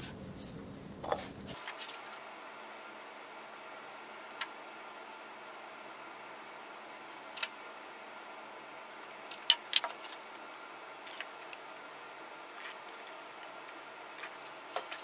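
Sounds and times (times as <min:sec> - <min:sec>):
low room hiss: 0:00.0 - 0:15.0.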